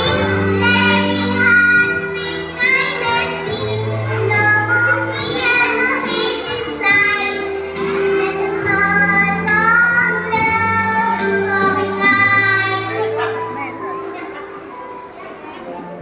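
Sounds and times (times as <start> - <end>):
child singing: 0.0 - 13.4
musical accompaniment with bass notes: 0.0 - 14.1.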